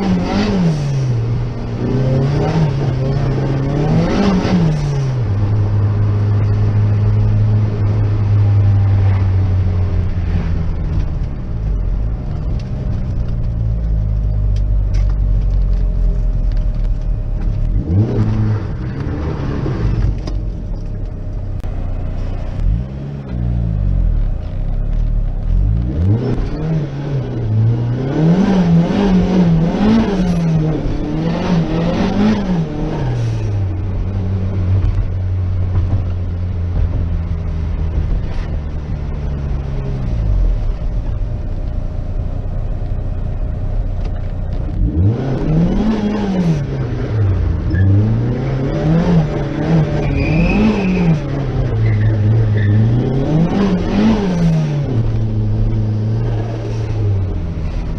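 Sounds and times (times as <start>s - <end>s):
turbocharged car engine revving: 0.0s - 43.1s, 44.0s - 57.9s.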